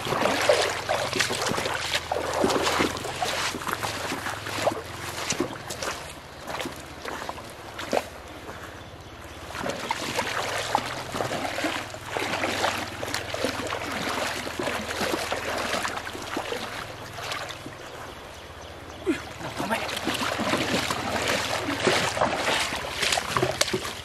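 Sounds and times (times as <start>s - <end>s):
footsteps splashing in shallow water: 0.0s - 24.0s.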